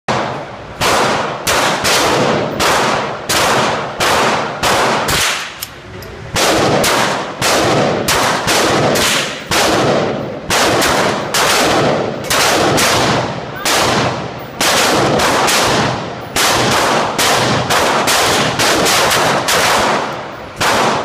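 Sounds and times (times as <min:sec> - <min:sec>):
handgun shots echoing indoors: 0:00.1 - 0:21.0.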